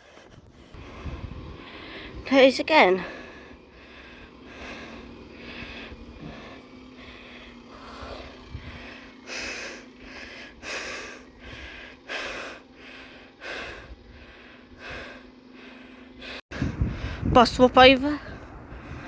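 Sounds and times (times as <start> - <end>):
heavy breathing: 0.0 - 17.3.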